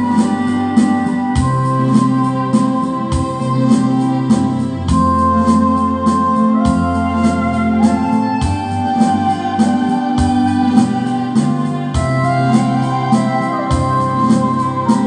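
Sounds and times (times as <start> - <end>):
electronic organ chords: 0.0 - 15.0
slow drum beat: 0.0 - 15.0.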